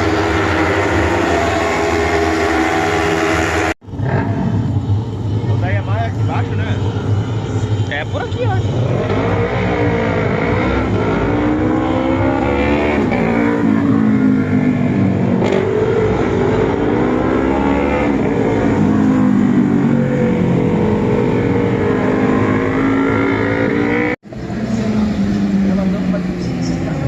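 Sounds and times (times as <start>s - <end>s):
racing motorcycle engines revving: 0.0s - 27.0s.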